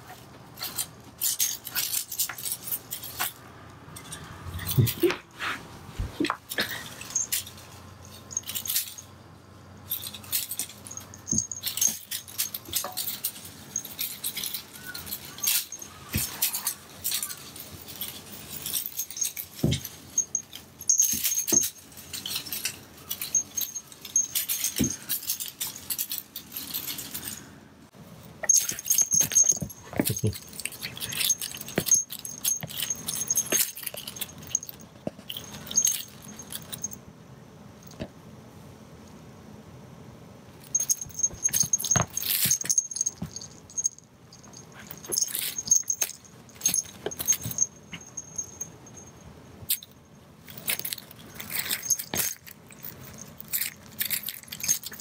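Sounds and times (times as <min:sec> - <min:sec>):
small bell jingling: 0:00.0 - 0:05.2, 0:06.4 - 0:09.2, 0:09.8 - 0:27.5, 0:28.4 - 0:37.0, 0:40.6 - 0:55.0
crinkly streamers rustling: 0:00.0 - 0:09.2, 0:09.8 - 0:37.0, 0:40.6 - 0:55.0.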